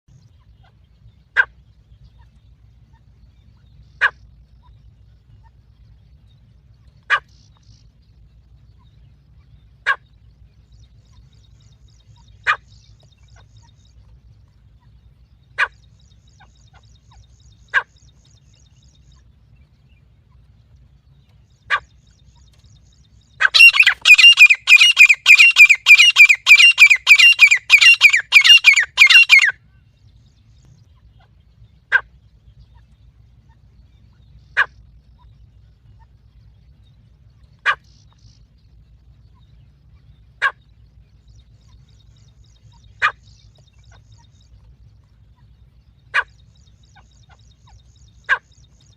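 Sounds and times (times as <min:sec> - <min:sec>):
francolin calls: 0:00.1 - 0:48.9.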